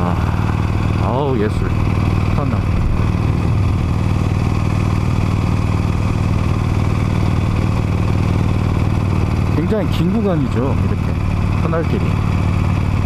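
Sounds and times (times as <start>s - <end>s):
motorcycle exhaust beat: 0.0s - 13.0s.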